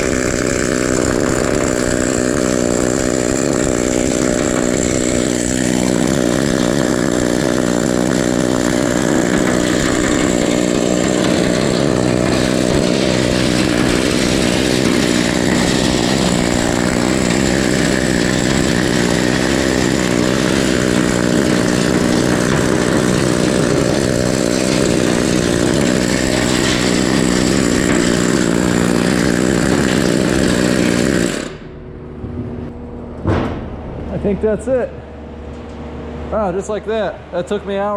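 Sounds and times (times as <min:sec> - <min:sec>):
needle scaler hammering steel: 0:00.0 - 0:31.7.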